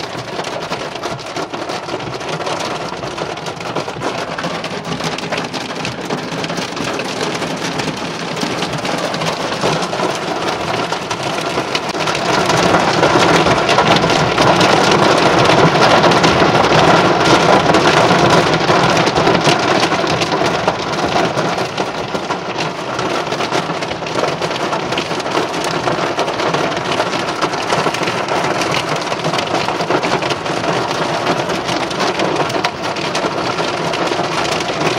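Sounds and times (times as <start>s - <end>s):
hail and rain on car roof: 0.0s - 34.9s.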